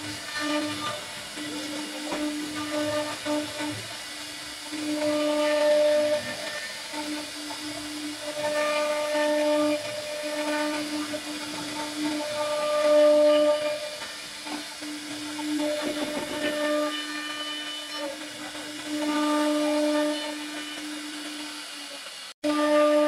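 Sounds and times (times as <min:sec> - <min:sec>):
router bit cutting wood: 0:00.0 - 0:23.0
router spindle whining: 0:00.0 - 0:23.0.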